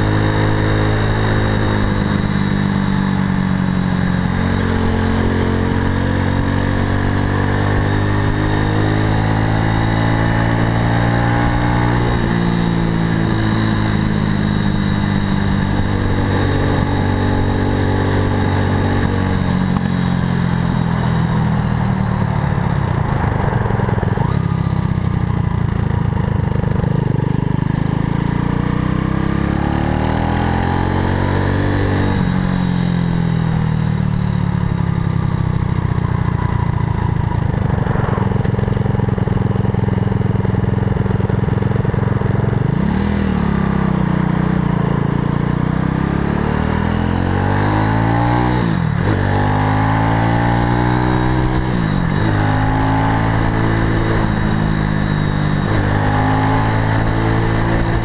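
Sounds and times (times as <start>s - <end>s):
motorcycle engine changing gears: 0.0s - 58.0s.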